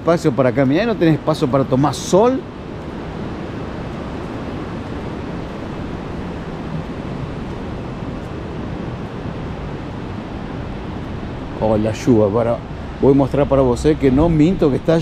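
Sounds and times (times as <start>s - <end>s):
distant surf: 0.0s - 15.0s
light rain: 0.0s - 15.0s
wind rumble on microphone: 0.0s - 15.0s.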